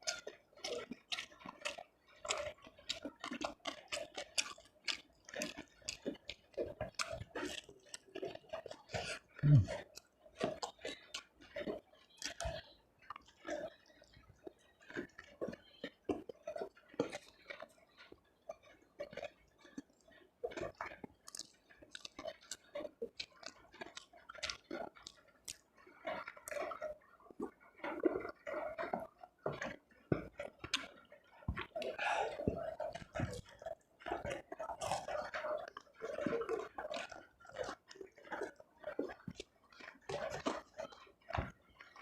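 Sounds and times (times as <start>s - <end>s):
chewing with wet mouth smacks: 0.0s - 42.0s.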